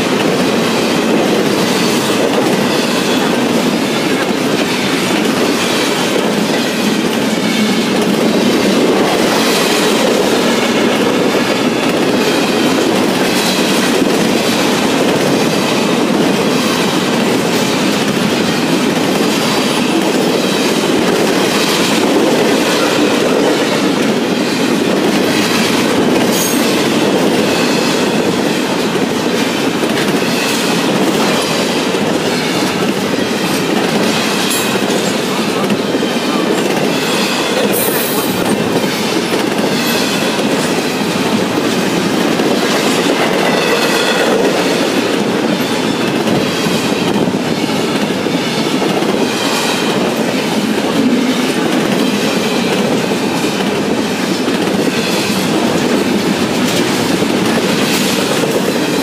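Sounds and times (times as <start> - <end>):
freight train wheels rushing on rail: 0.0 - 59.0
wheels clickety-clack on rail joints: 0.0 - 59.0.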